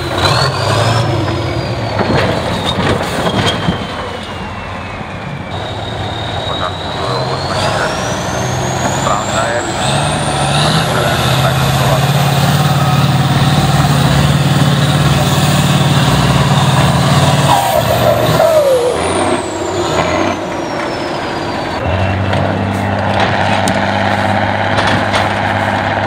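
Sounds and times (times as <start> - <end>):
truck engine running hard: 0.0 - 26.0
short squeal: 0.2 - 22.0.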